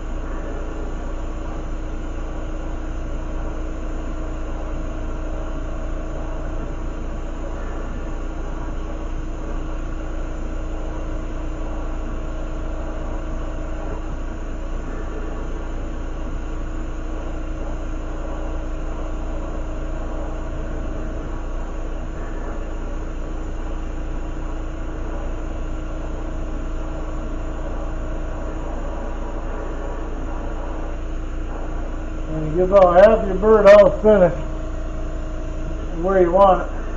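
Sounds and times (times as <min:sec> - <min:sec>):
lampworking bench drone: 0:00.0 - 0:36.9.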